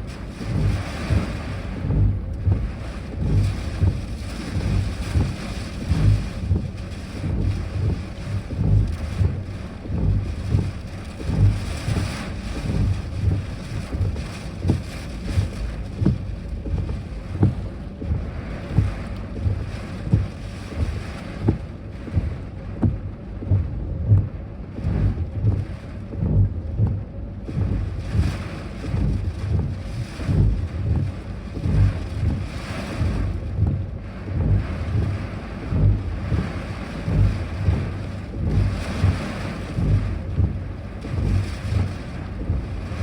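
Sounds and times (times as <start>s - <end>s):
gusty wind buffeting microphone: 0.0s - 43.0s.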